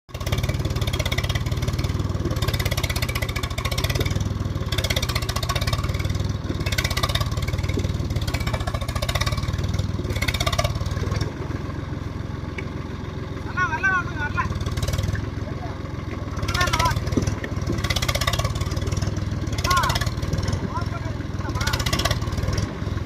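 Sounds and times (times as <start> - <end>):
tractor engine under load: 0.1 - 23.0.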